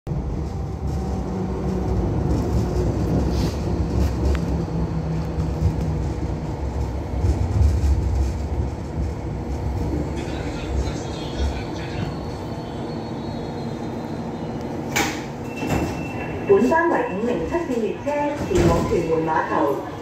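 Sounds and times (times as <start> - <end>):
train interior rumble: 0.0 - 20.0.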